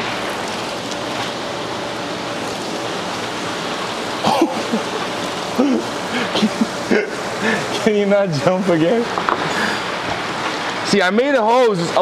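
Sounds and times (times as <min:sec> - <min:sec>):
water splashing from hoses: 0:00.0 - 0:12.0.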